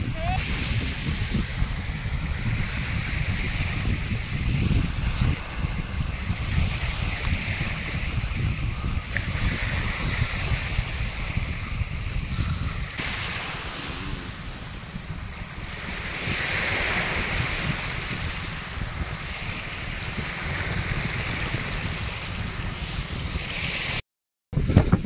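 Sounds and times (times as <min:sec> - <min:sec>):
waves lapping on sandy shore: 0:00.0 - 0:24.0
wind rumbling on microphone: 0:00.0 - 0:25.0.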